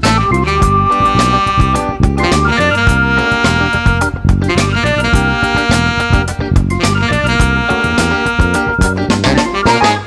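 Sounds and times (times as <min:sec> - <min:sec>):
drum kit hits: 0:00.0 - 0:10.0
funk jazz band groove: 0:00.0 - 0:10.0.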